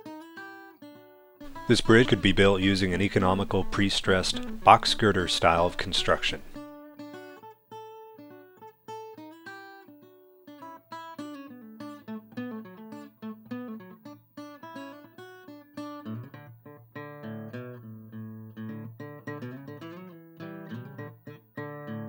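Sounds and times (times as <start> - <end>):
picked acoustic guitar: 0.0 - 22.0.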